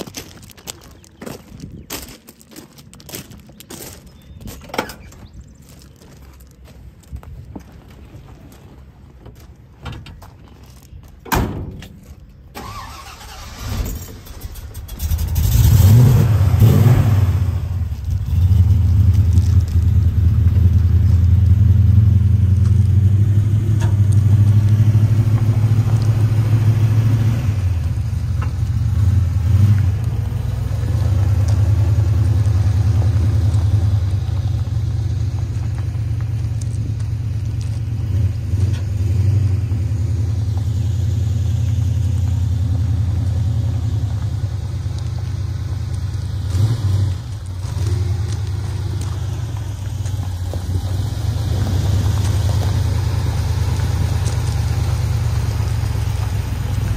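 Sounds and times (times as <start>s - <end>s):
truck engine starting and running: 3.4s - 56.9s.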